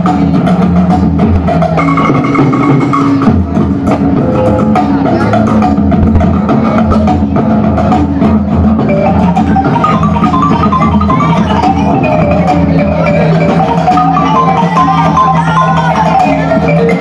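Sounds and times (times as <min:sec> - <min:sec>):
marimba mallet runs: 0:00.0 - 0:17.0.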